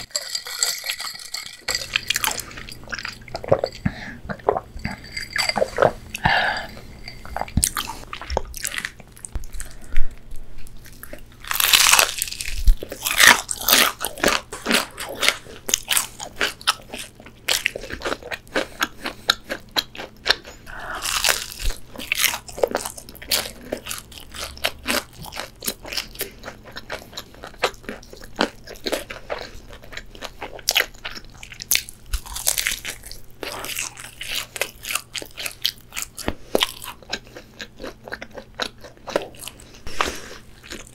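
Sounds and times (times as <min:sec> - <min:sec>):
soft chewing: 0:00.0 - 0:40.9.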